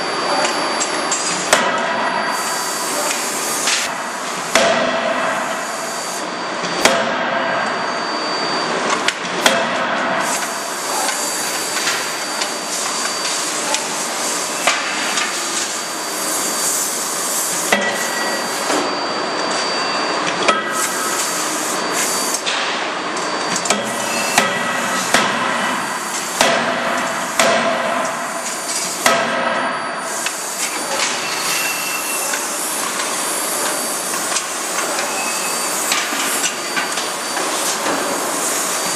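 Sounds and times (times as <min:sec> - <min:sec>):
steady machine noise: 0:00.0 - 0:38.9.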